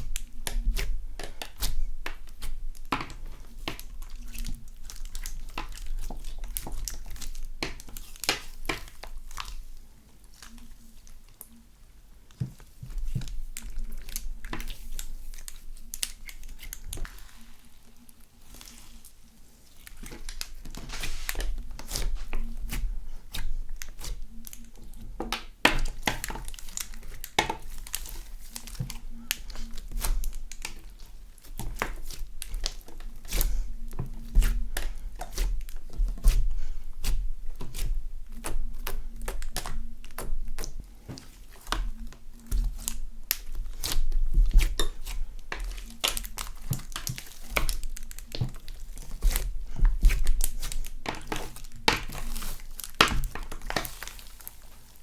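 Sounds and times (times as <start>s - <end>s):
slime being kneaded: 0.0s - 11.7s, 12.3s - 55.0s.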